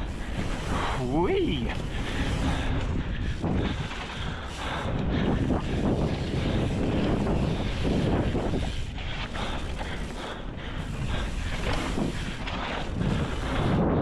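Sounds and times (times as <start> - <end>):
bike tyres rolling on dirt: 0.0 - 14.0
wind rushing over microphone: 0.0 - 14.0.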